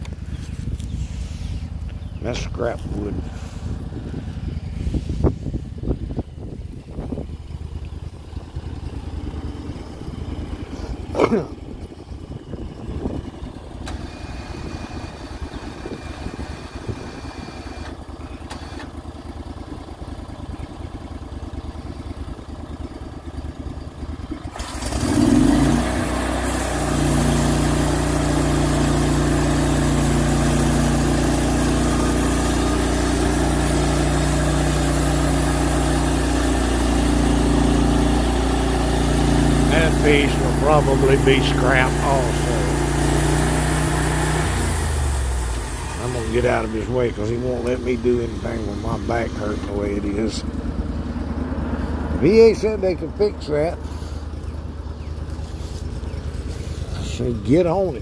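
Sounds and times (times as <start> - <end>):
sawmill engine idling and revving: 0.0 - 58.0.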